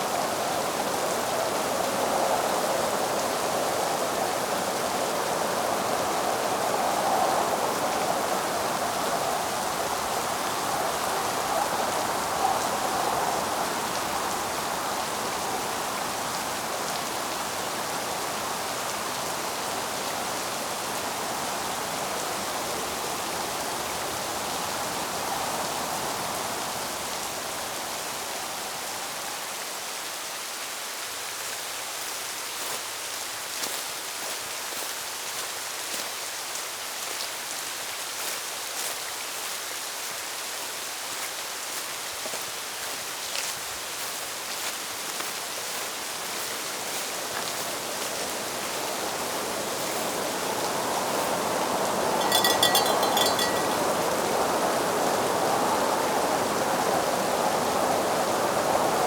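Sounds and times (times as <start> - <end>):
steady rain: 0.0 - 52.4, 53.1 - 59.0.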